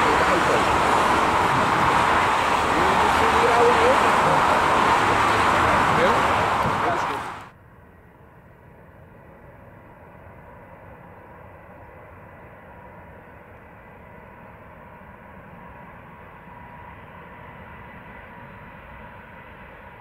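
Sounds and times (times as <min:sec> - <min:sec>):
jet engines rumble and whine: 0:00.0 - 0:20.0.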